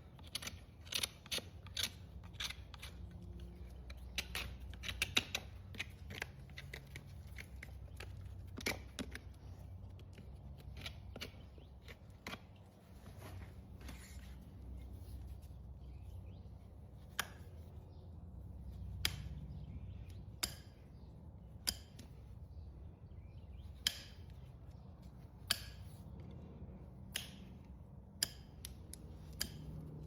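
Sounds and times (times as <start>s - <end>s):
hoof nippers snipping hoof: 0.0s - 30.0s.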